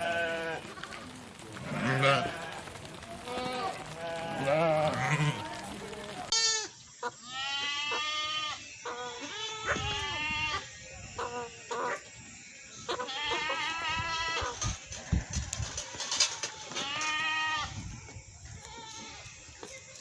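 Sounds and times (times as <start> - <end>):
goats bleating: 0.0 - 0.7, 1.6 - 12.0, 12.7 - 17.9, 18.5 - 20.0.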